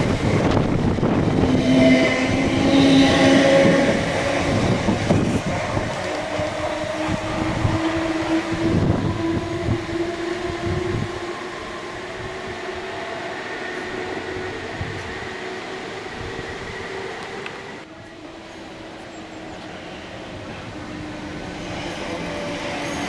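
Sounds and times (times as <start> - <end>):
electric train motors whining: 0.0 - 23.0.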